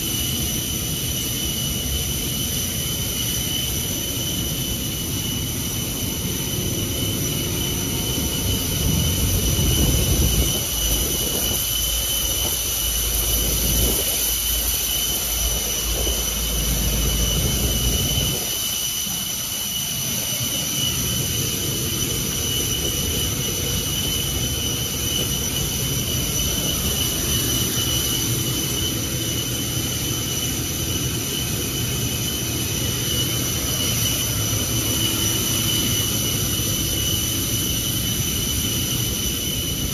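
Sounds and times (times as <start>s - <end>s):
jet turbine whine and roar: 0.0s - 39.9s.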